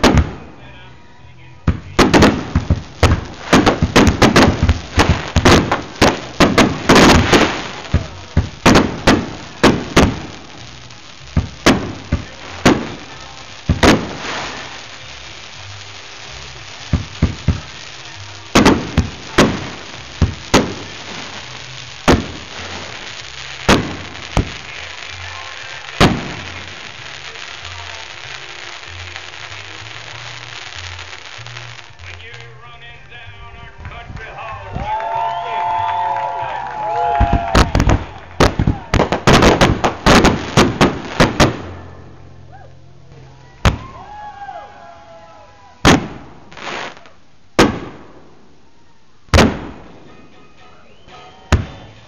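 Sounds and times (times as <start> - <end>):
fireworks bangs: 0.0 - 0.8, 1.6 - 42.2, 43.6 - 44.1, 45.8 - 48.6, 49.3 - 52.0.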